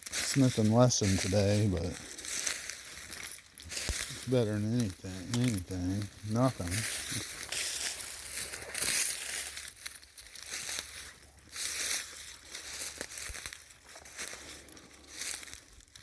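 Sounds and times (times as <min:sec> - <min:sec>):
footsteps on dry leaves: 0:00.0 - 0:16.0.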